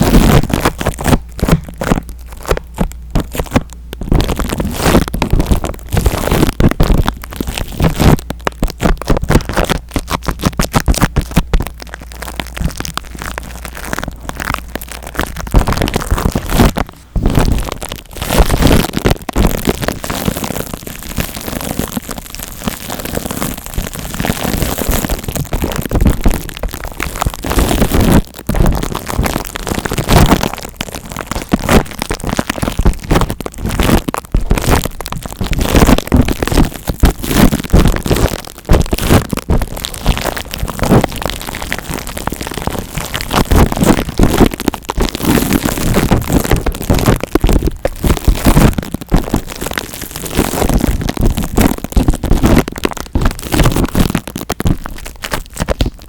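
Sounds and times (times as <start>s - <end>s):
crackling scratching into microphone: 0.0s - 56.0s.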